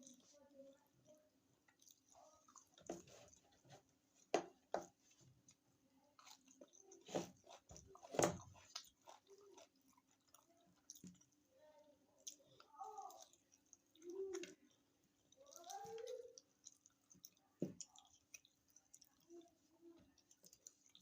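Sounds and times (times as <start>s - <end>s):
chewing mouth noises: 1.6s - 3.6s, 5.3s - 21.0s.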